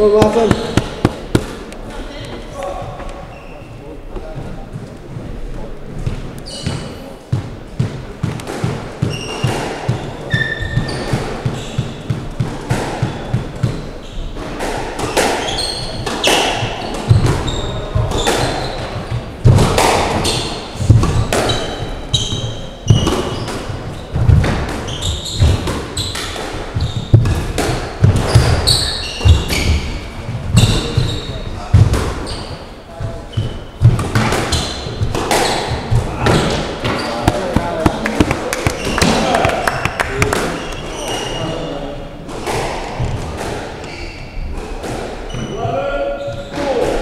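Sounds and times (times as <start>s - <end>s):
squash ball hitting rackets and walls: 0.0s - 2.4s, 4.1s - 47.0s
shoes squeaking: 0.0s - 47.0s.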